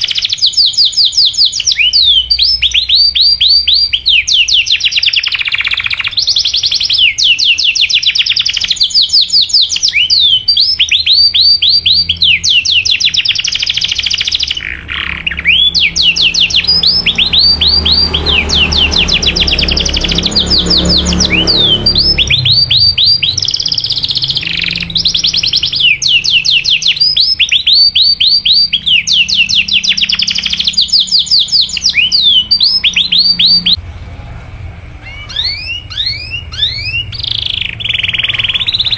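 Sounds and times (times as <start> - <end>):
canary singing trills: 0.0 - 33.8, 35.0 - 38.9.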